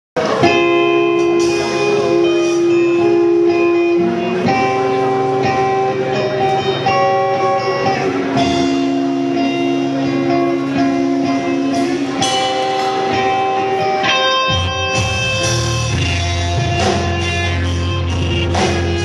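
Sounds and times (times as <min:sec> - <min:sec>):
electric guitar chords: 0:00.2 - 0:19.0
live rock band music: 0:00.2 - 0:19.0.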